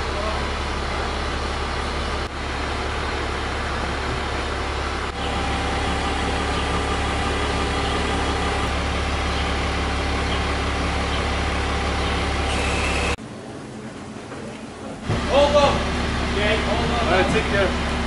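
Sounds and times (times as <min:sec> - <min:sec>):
crane engine humming: 0:00.0 - 0:18.0.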